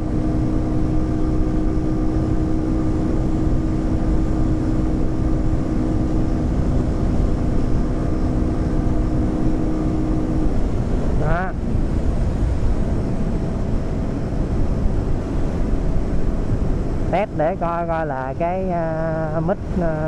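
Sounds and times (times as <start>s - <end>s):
motorbike engine drone: 0.0s - 20.0s
wind buffeting microphone: 0.0s - 20.0s.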